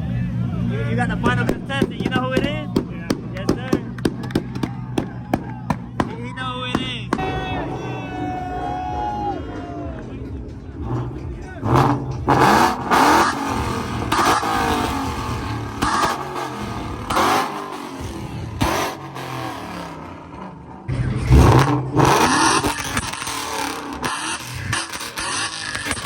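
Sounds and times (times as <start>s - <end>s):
car engine revving in bursts: 0.0s - 7.7s, 10.5s - 26.0s
exhaust bangs: 0.0s - 26.0s.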